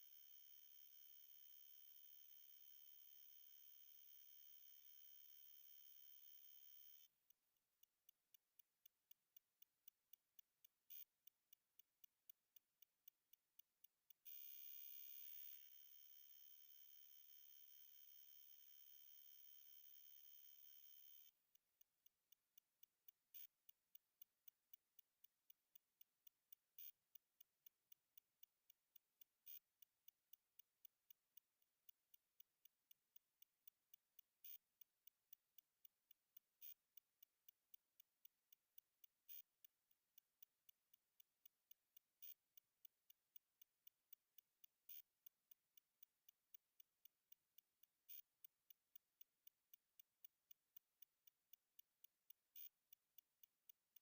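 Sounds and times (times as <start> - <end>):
faint high ticks: 0.0 - 54.0.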